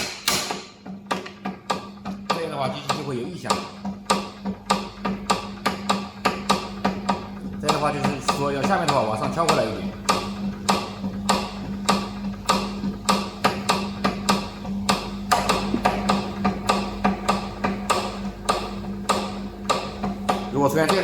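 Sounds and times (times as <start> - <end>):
rhythmic clicking knock: 0.0 - 21.0
band sealer motor hum: 1.8 - 21.0.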